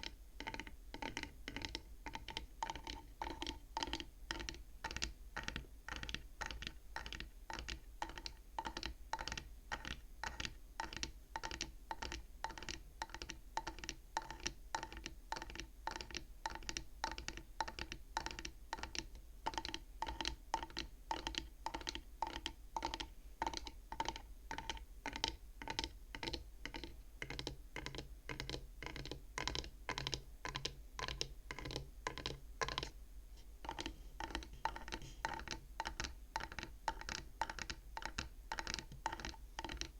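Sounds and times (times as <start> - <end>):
fingers tapping on wooden frame: 0.0 - 33.0, 33.6 - 39.9.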